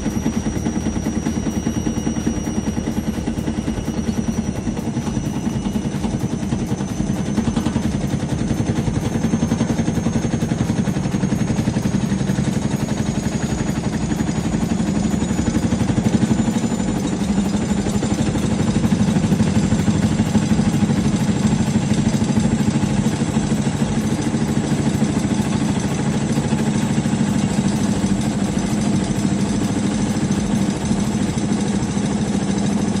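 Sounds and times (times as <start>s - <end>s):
high motor whine: 0.0s - 33.0s
washing machine drum rattling: 0.0s - 33.0s.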